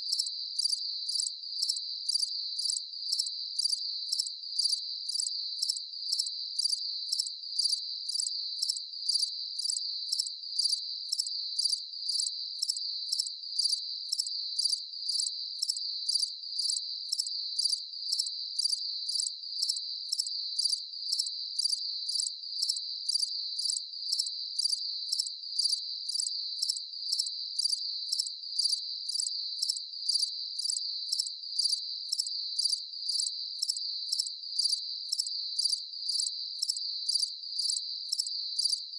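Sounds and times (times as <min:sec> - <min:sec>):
crickets chirping: 0:00.1 - 0:38.8.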